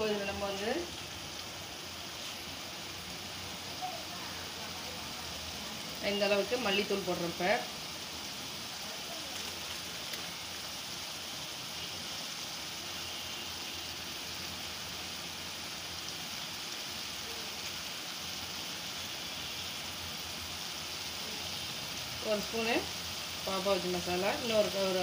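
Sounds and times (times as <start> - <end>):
food sizzling in butter: 0.0 - 25.0.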